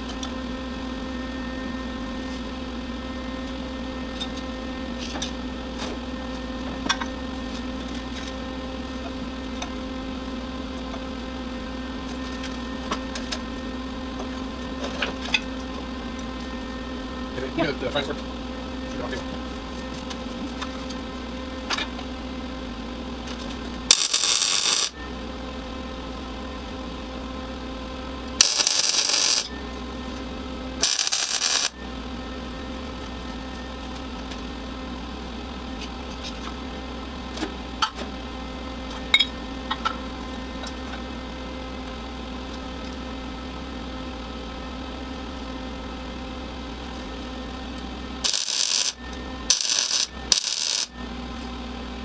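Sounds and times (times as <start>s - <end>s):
steady hum: 0.0s - 36.1s, 44.6s - 52.0s.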